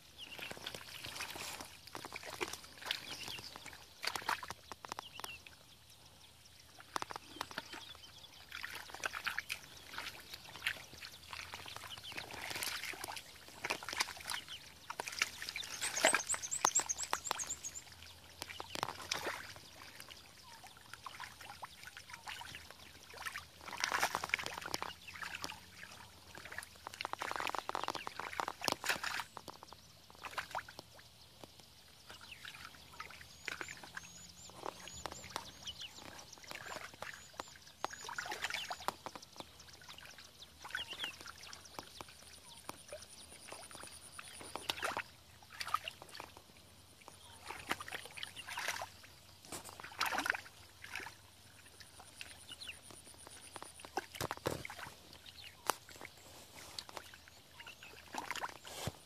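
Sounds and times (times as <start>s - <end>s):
hands sloshing through mud: 0.1s - 5.4s, 6.8s - 30.9s, 32.1s - 46.5s, 47.1s - 59.0s.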